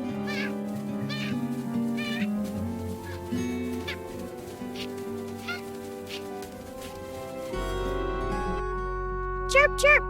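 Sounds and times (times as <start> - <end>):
background music of held notes: 0.0 - 10.0.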